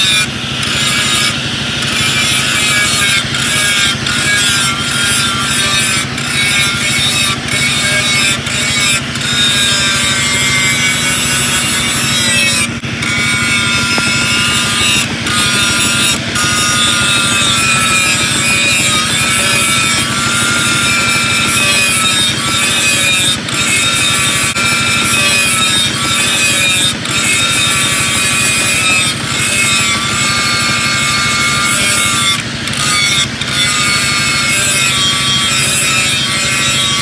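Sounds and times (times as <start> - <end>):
angle grinder grinding steel: 0.0 - 37.0.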